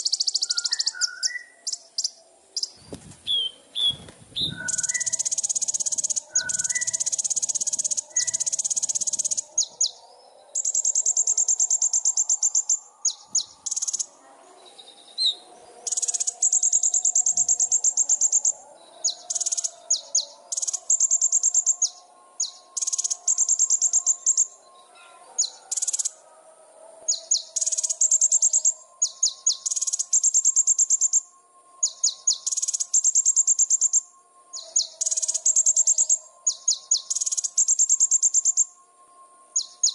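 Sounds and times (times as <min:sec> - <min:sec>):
songbird singing buzzy trills: 0:00.0 - 0:26.4, 0:27.0 - 0:39.9.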